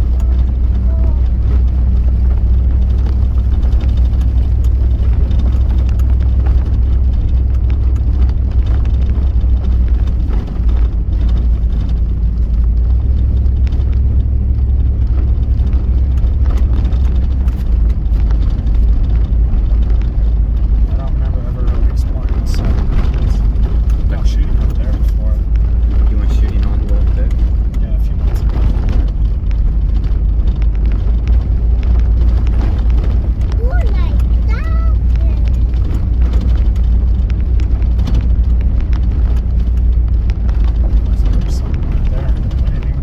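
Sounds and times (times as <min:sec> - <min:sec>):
knocks and rattles from bumps: 0:00.0 - 0:43.0
vehicle engine and tyres rumbling: 0:00.0 - 0:43.0.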